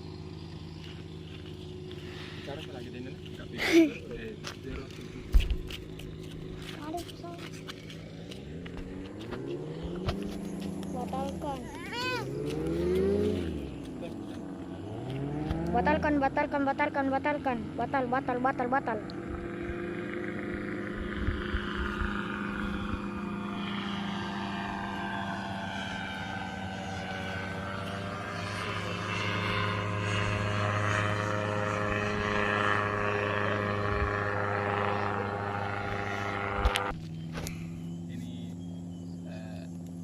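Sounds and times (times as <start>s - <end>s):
light aircraft engine and propeller: 0.0s - 40.0s.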